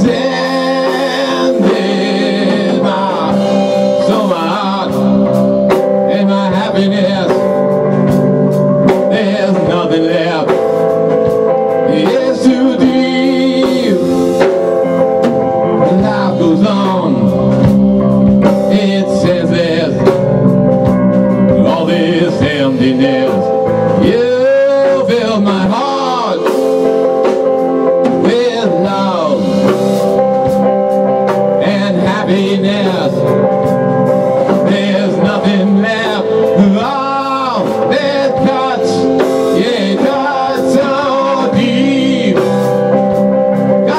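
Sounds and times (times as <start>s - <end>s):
distorted electric guitar: 0.0s - 43.9s
drum kit: 0.0s - 43.9s
electric bass: 0.0s - 43.9s
man singing: 0.0s - 43.9s.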